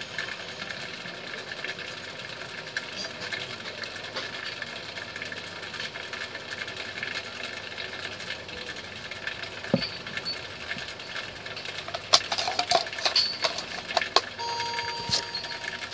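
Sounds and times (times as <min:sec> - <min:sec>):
steady background noise: 0:00.0 - 0:15.9.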